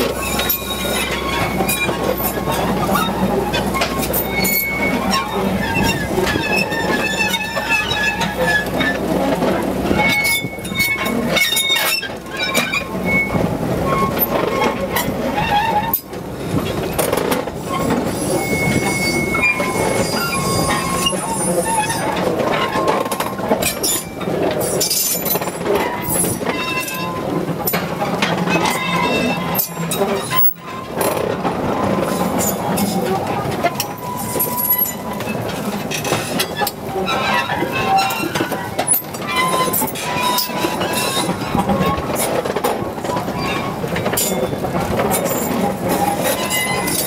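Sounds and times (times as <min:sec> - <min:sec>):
high-pitched wheel squeals: 0:00.0 - 0:09.0, 0:09.9 - 0:16.1, 0:17.0 - 0:27.3, 0:28.5 - 0:31.1, 0:33.8 - 0:42.0, 0:43.4 - 0:47.0
clanks and knocks: 0:00.0 - 0:18.1, 0:19.5 - 0:47.0
freight train wagons rolling: 0:00.0 - 0:47.0.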